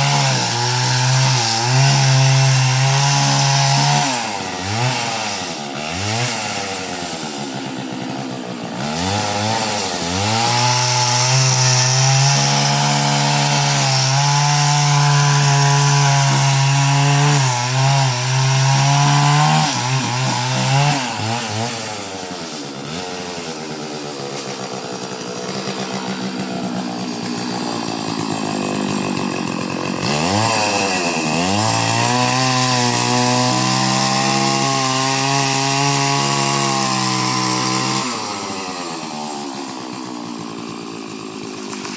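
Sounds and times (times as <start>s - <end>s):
chainsaw cutting coconut: 0.0s - 41.9s.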